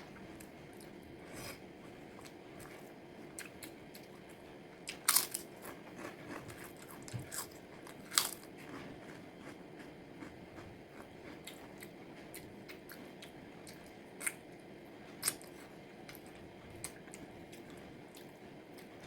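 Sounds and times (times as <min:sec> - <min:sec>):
crunching and chewing food: 0:00.1 - 0:19.0.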